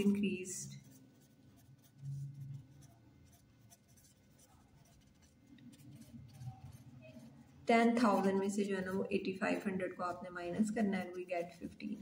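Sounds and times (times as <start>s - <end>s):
pen scratching handwriting: 0.0s - 12.0s.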